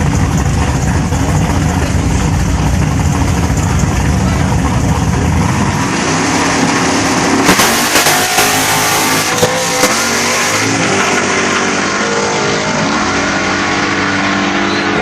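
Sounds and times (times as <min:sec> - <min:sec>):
car engine revving: 0:00.0 - 0:15.0
loud steady rushing noise: 0:00.0 - 0:15.0.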